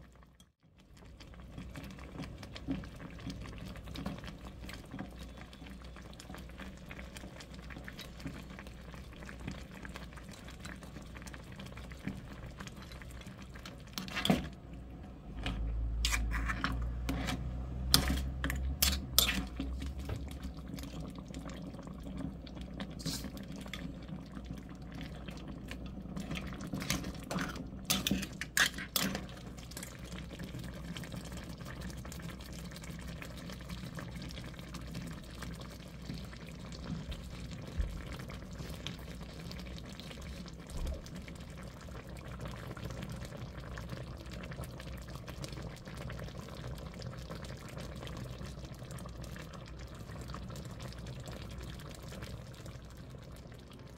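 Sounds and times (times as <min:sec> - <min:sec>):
sauce simmering and bubbling: 0:00.0 - 0:53.9.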